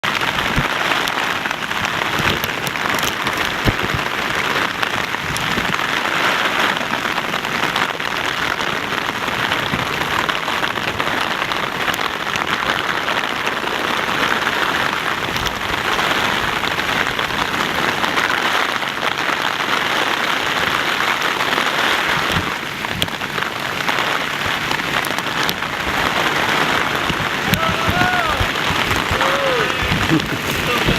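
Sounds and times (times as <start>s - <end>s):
heavy rain falling: 0.0s - 30.9s
raindrop ticks: 0.3s - 5.9s, 6.9s - 18.3s, 22.2s - 30.9s.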